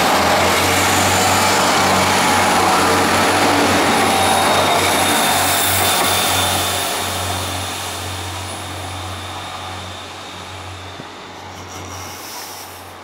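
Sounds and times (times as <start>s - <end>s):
train wheels and engines rumbling: 0.0s - 13.0s.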